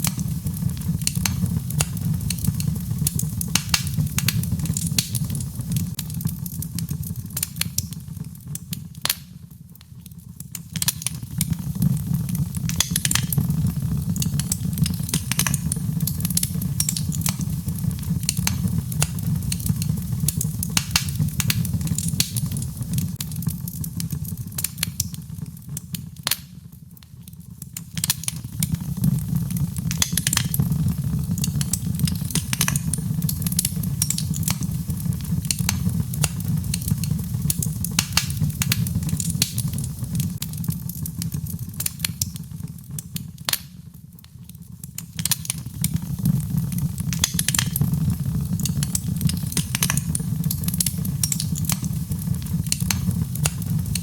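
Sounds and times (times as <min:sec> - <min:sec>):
low fire rumble: 0:00.0 - 0:43.6, 0:44.2 - 0:54.0
fire crackling and popping: 0:00.0 - 0:54.0.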